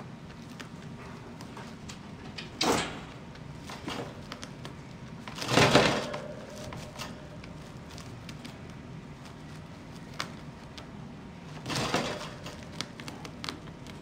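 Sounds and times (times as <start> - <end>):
rabbit chewing: 0.0 - 2.2, 3.1 - 14.0.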